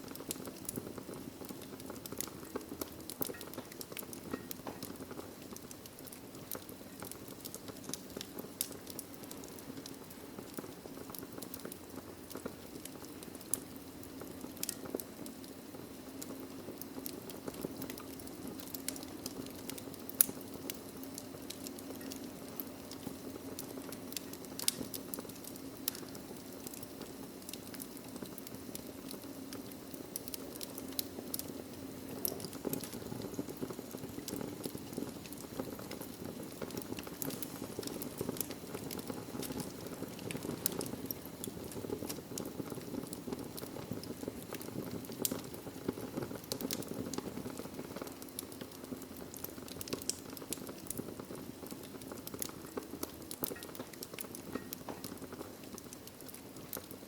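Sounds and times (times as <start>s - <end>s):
low rush of flame: 0.0s - 57.0s.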